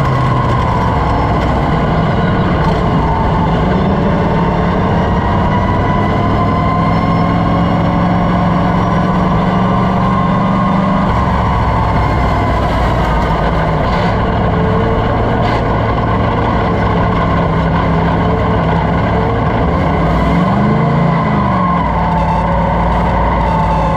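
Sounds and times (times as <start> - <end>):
engine rev: 0.0 - 23.9
race car engine running: 0.0 - 23.9.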